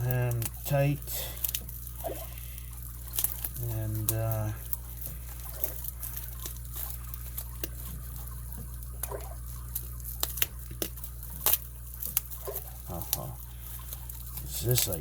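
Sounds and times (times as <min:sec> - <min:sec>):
steady low hum: 0:00.0 - 0:15.0
hands unwrapping packaging: 0:01.2 - 0:15.0.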